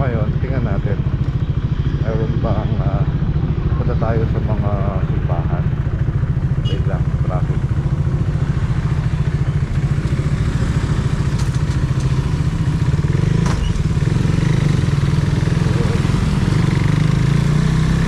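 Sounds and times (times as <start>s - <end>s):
motorcycle engine: 0.0s - 18.0s.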